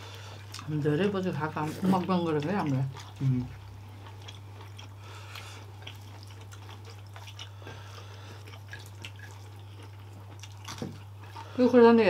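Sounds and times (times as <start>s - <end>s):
people chewing: 0.0s - 12.0s
steady low hum: 0.0s - 12.0s.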